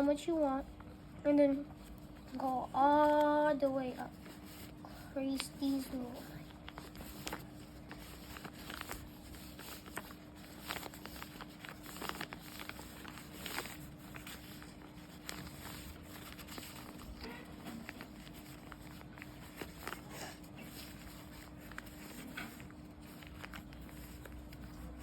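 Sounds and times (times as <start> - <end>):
faint steady hum: 0.0 - 25.0
paper folding and crinkling: 0.0 - 25.0.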